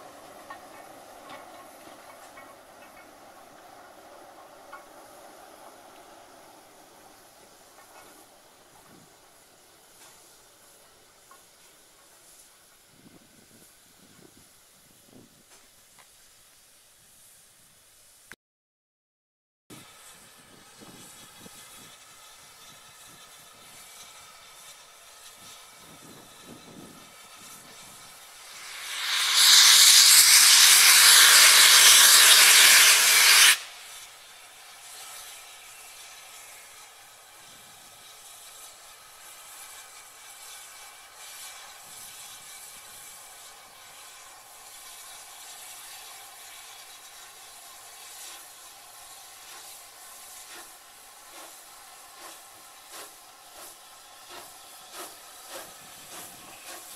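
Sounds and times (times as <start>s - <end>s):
steam locomotive hissing steam: 0.0s - 18.3s, 19.7s - 56.9s.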